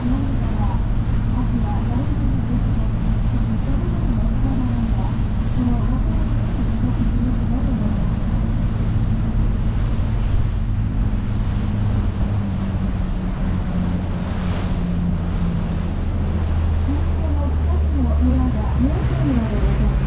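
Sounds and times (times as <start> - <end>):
boat engine running: 0.0 - 20.0
wake rushing along hull: 0.0 - 20.0
wind on microphone: 0.0 - 20.0.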